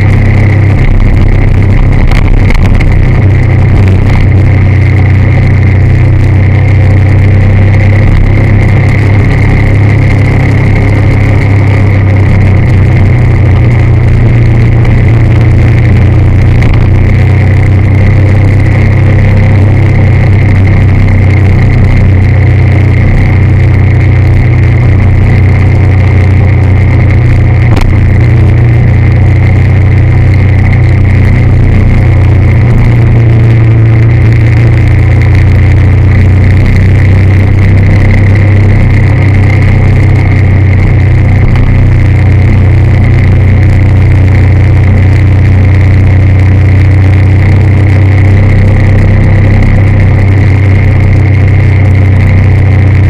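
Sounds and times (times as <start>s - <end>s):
road and wind noise: 0.0s - 53.0s
vehicle engine cruising: 0.0s - 53.0s.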